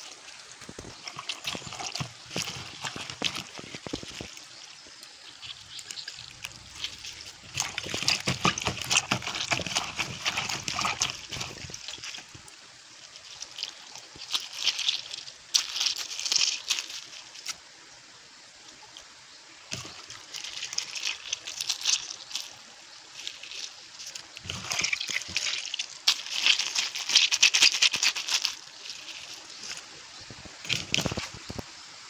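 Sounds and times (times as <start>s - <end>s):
wet leaves crushed by hand: 0.0s - 4.6s, 5.2s - 17.6s, 19.7s - 29.9s, 30.6s - 31.6s.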